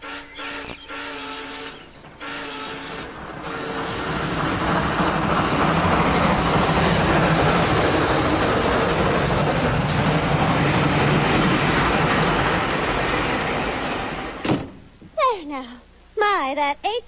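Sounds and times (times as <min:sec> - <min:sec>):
train rushing past: 0:00.0 - 0:14.6.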